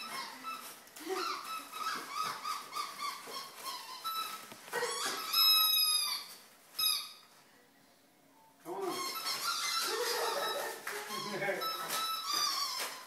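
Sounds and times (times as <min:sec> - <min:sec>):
dog whining: 0:00.0 - 0:07.2, 0:08.8 - 0:13.0.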